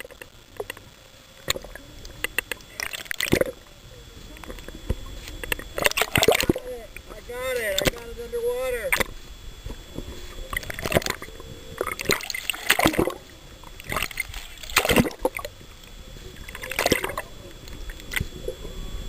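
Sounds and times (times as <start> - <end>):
water splashing and gurgling: 0.0 - 19.0.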